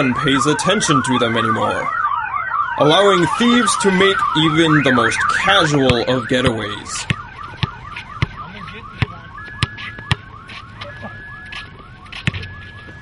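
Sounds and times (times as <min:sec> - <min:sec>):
alarm beeps: 0:00.0 - 0:13.0
car alarm whooping: 0:00.0 - 0:13.0.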